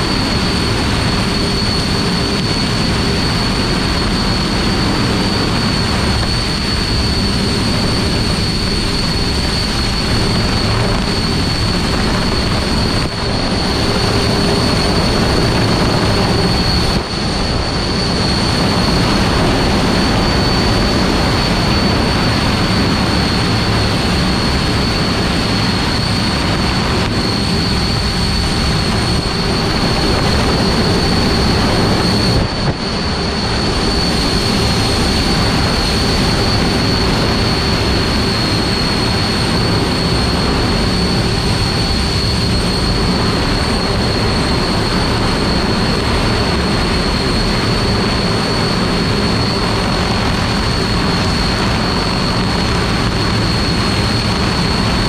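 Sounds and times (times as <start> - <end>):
fans blowing with high whine: 0.0 - 55.0.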